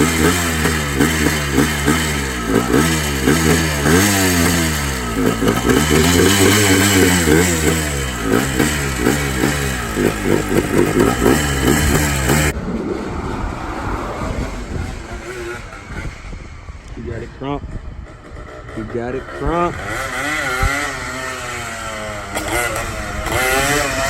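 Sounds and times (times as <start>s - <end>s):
two-stroke engine revving: 0.0s - 12.6s, 14.3s - 24.0s.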